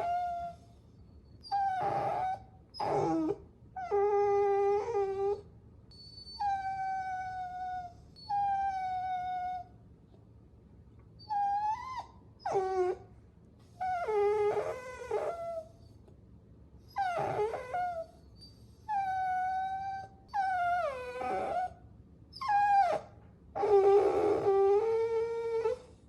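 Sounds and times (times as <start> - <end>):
puppy whining: 0.0 - 9.8, 11.2 - 16.1, 16.8 - 26.0.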